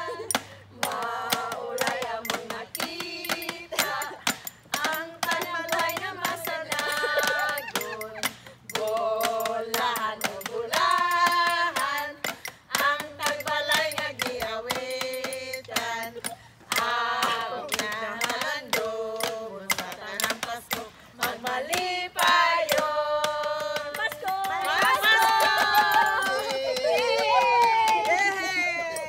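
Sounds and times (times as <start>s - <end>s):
clapped beat: 0.0s - 28.6s
women singing together: 0.0s - 29.0s.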